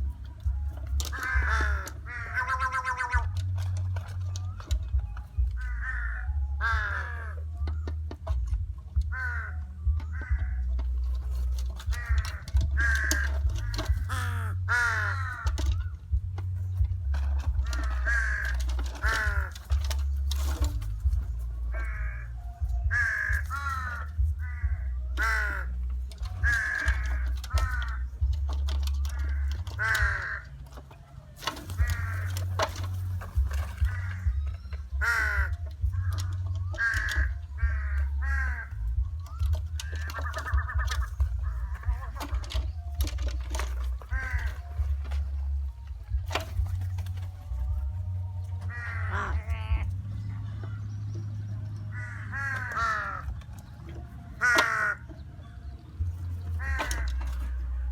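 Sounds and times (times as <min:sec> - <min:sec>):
steady low rumble: 0:00.0 - 0:30.8, 0:31.7 - 0:57.9
crows cawing: 0:00.4 - 0:50.9, 0:51.8 - 0:57.9.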